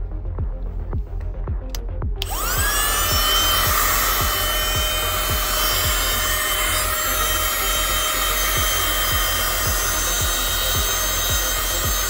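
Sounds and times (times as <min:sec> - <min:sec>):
electronic background music: 0:00.0 - 0:12.0
handheld vacuum running: 0:02.2 - 0:12.0.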